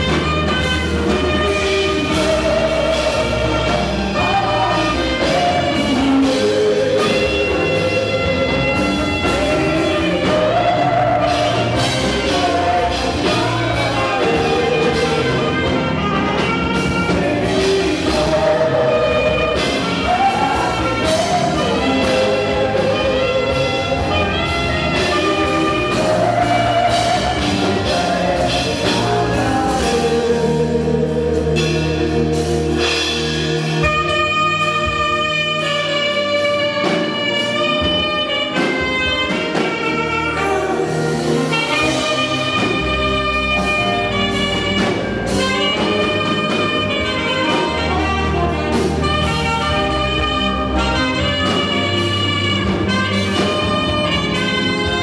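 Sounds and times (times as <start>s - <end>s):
bass: 0.0s - 55.0s
drum kit: 0.0s - 55.0s
saxophone melody: 0.0s - 55.0s.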